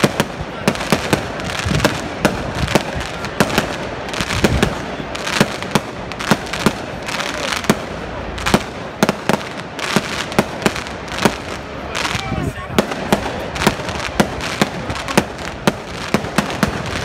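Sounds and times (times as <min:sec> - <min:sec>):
continuous background noise: 0:00.0 - 0:17.0.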